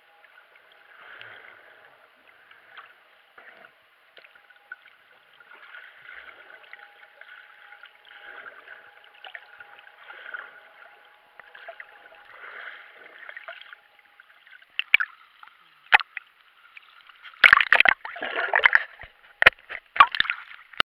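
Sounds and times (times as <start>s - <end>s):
faint steady tone: 0.0s - 20.8s
muffled underwater water rush: 0.0s - 20.8s.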